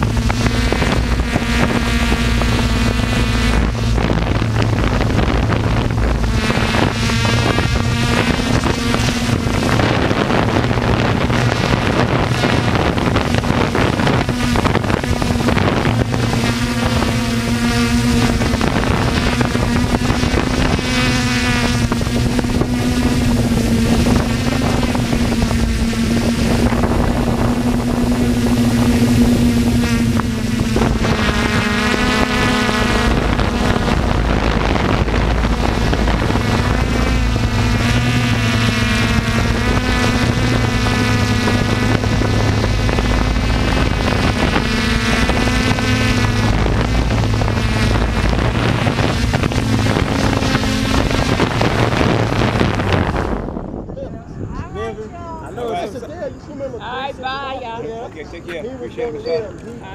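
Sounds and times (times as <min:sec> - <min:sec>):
wind noise on microphone: 0:00.0 - 0:56.1
model aircraft motors humming: 0:00.0 - 0:59.9.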